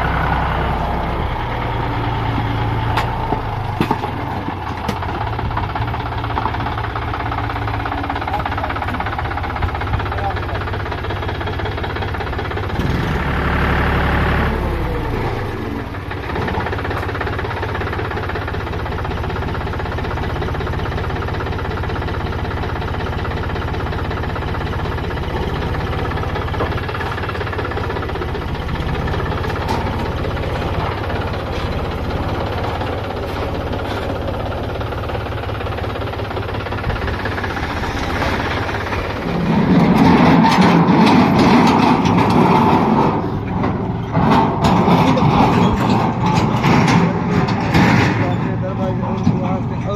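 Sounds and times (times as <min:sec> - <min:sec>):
diesel engine revving under load: 0:00.0 - 0:10.3, 0:11.2 - 0:19.9, 0:23.5 - 0:49.8.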